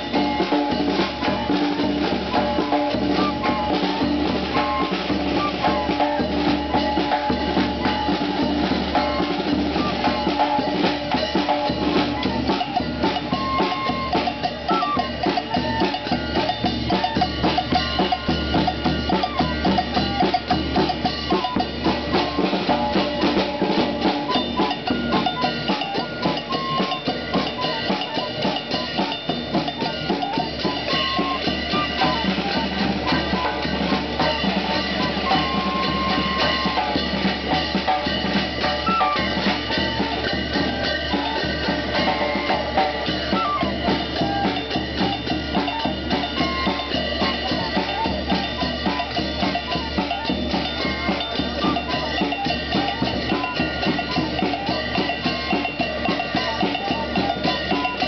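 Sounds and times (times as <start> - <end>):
hand cymbals clashing: 0.0 - 58.0
snare and bass drum beat: 0.0 - 58.0
wooden flute melody: 0.0 - 58.0.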